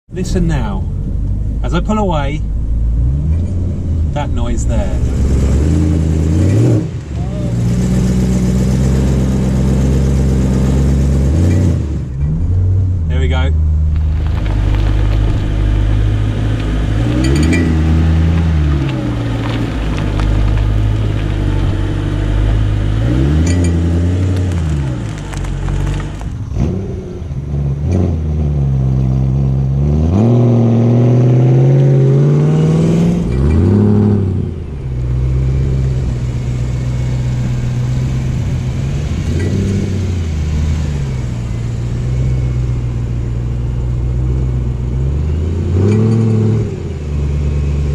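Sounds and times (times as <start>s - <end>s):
car engine revving: 0.1s - 47.9s.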